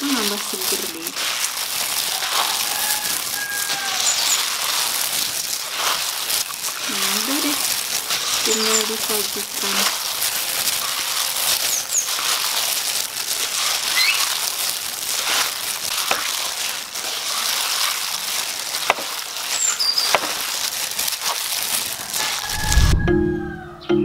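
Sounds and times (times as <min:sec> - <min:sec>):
plastic glove crinkling: 0:00.0 - 0:23.0
crisp vegetables rustling: 0:00.0 - 0:23.1.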